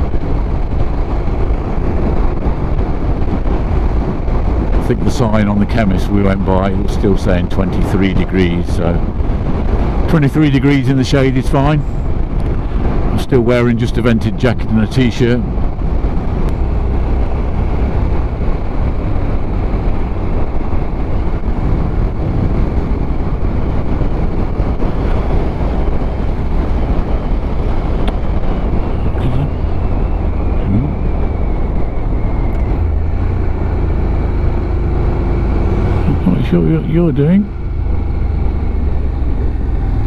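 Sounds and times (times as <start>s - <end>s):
motorcycle engine drone: 0.0s - 40.0s
wind and road noise: 0.0s - 40.0s.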